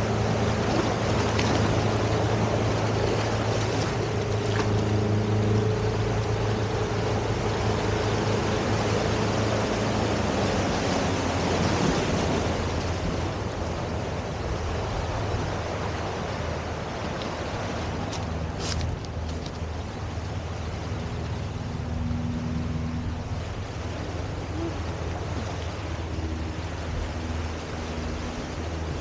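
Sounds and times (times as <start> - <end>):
low engine hum: 0.0 - 29.0
sea surf washing onto beach: 0.0 - 29.0.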